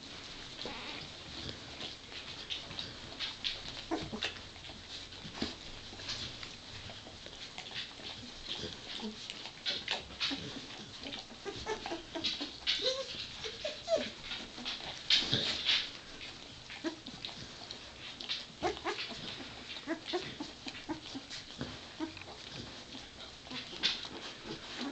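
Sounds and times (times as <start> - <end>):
puppies whimpering and squeaking: 0.5 - 24.9.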